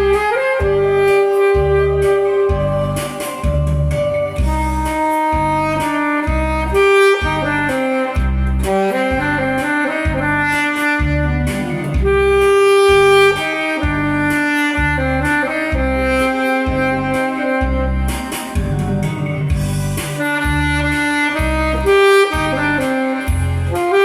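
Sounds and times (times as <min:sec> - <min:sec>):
backing track with bass line: 0:00.0 - 0:24.0
saxophone playing melody: 0:00.0 - 0:24.0.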